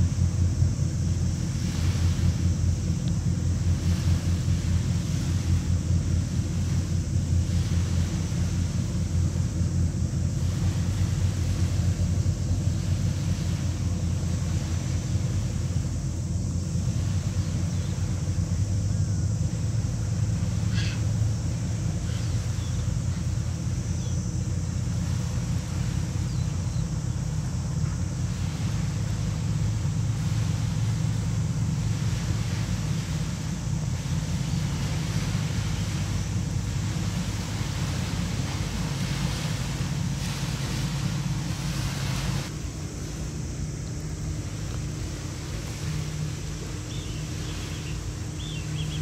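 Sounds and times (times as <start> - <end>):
boat engine droning: 0.0 - 49.0
bow wave hiss: 0.0 - 49.0.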